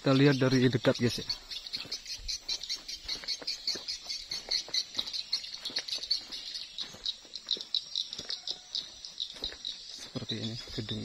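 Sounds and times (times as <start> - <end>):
footsteps through undergrowth: 0.0 - 11.0
high-pitched bird twittering: 0.0 - 11.0.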